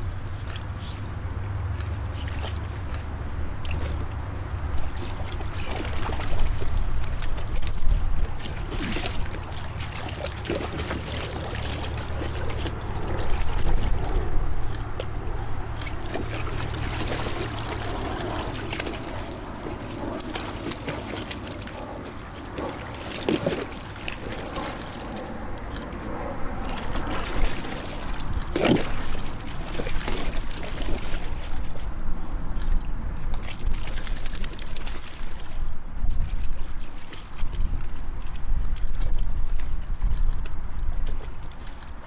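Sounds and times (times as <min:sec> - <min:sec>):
water splashing in a pool: 0:00.0 - 0:42.0.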